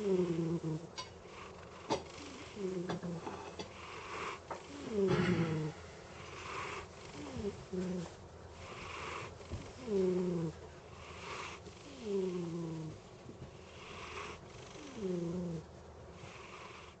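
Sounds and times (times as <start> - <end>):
cat snoring: 0.0 - 13.0, 13.6 - 17.0.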